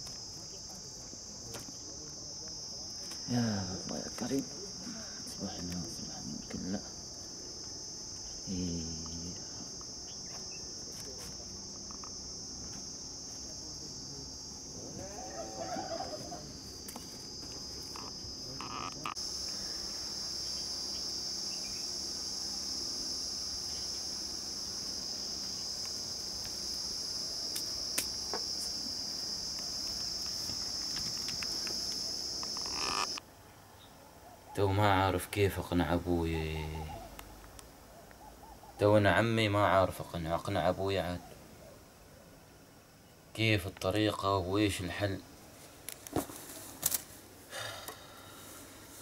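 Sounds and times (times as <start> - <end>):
insect chorus drone: 0.0 - 49.0.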